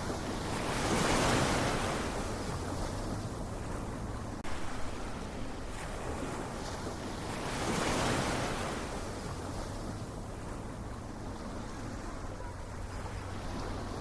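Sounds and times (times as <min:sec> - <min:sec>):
ocean waves crashing: 0:00.0 - 0:14.0.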